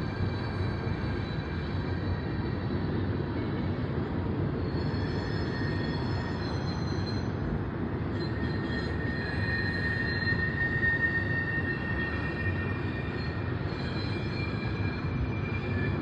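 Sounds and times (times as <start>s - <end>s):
high wheel squeal: 0.0s - 3.9s, 4.6s - 16.0s
train wheels rumbling on rail: 0.0s - 16.0s.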